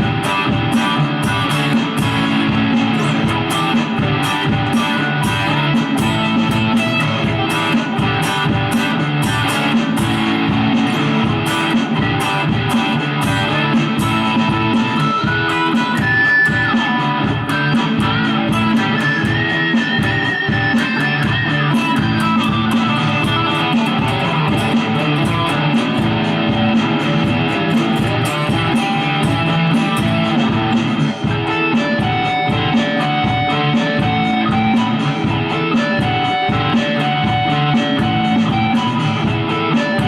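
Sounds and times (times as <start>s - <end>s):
electric guitar lead line: 0.0s - 40.0s
steady drum beat: 0.0s - 40.0s.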